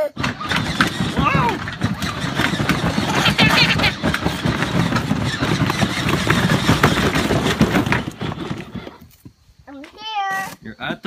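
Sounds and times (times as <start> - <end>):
electric motors of ride-on toy car: 0.0 - 9.3
plastic wheels rattling over pavement: 0.0 - 9.4.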